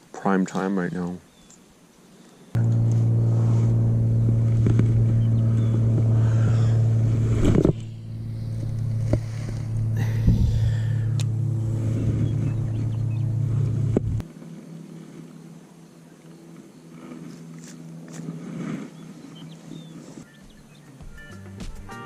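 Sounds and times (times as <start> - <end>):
engine humming steadily: 2.6 - 21.9.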